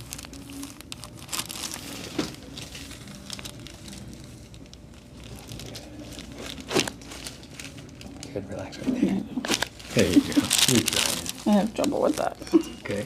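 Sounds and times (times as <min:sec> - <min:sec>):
rustling and crinkling handling: 0:00.0 - 0:13.0.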